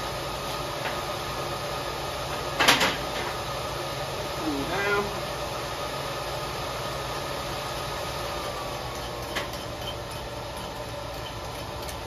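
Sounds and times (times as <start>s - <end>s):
fan-like mechanical hum: 0.0s - 12.0s.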